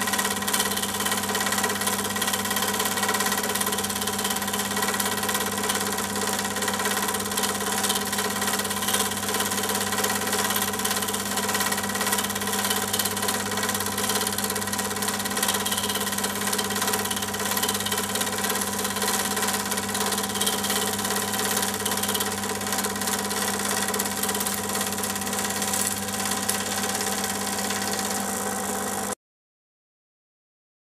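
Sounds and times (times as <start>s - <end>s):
film projector running: 0.0s - 29.2s.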